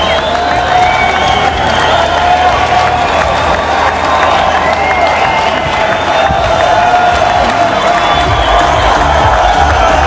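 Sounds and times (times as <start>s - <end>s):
music: 0.0s - 10.0s.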